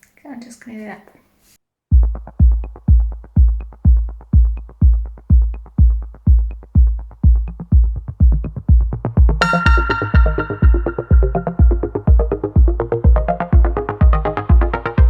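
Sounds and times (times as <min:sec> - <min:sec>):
kick drum pounding: 0:01.9 - 0:15.0
electronic dance music: 0:02.0 - 0:15.0.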